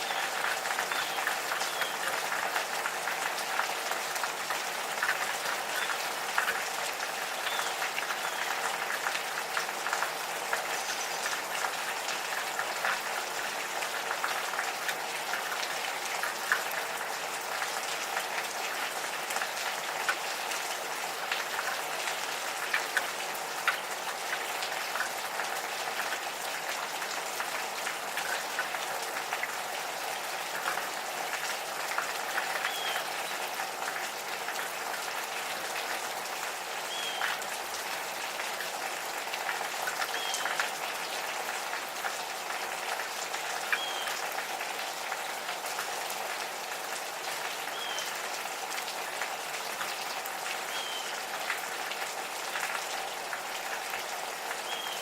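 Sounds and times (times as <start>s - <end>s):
gentle rain falling: 0.0s - 55.0s
raindrops ticking: 0.0s - 55.0s.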